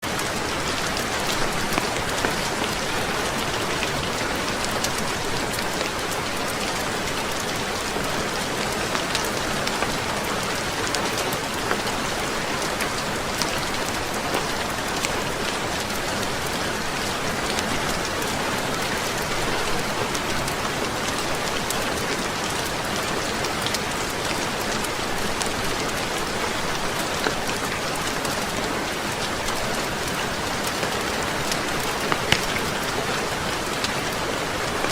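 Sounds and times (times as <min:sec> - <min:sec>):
rain falling on a roof: 0:00.0 - 0:34.9.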